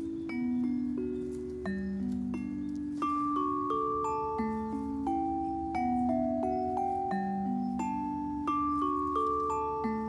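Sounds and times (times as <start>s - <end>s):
mallet percussion melody: 0.0s - 10.0s.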